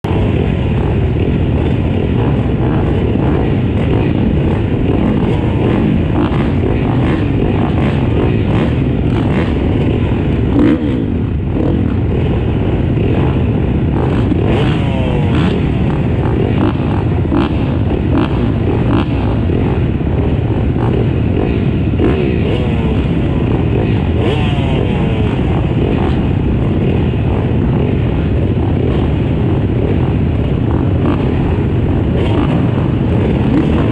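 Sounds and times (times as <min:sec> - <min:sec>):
motocross bikes revving: 0:00.0 - 0:33.9.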